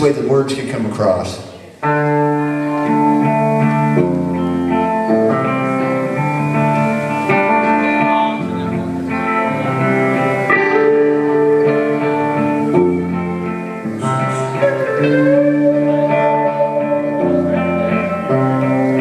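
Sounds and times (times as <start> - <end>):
electric guitar chords: 1.4 - 19.0
rock band playing: 1.8 - 19.0.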